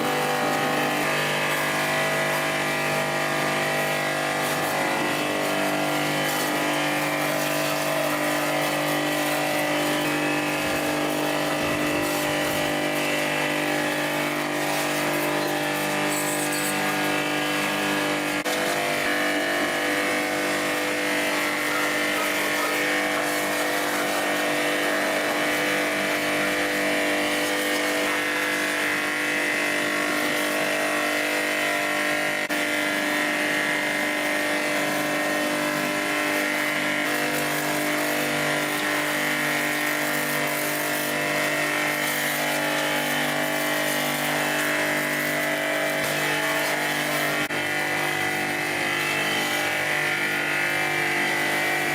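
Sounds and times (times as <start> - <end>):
machine running steadily: 0.0 - 51.9.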